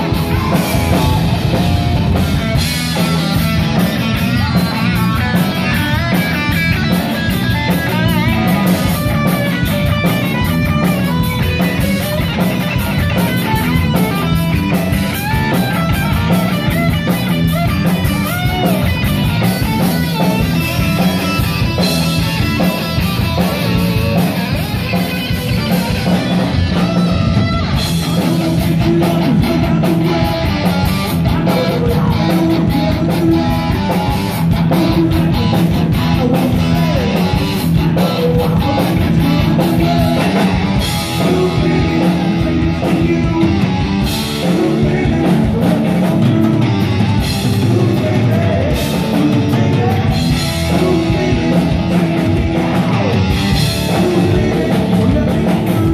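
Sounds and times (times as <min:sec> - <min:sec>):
electric guitar bending notes: 0:00.0 - 0:55.9
heavy metal band playing: 0:00.0 - 0:55.9.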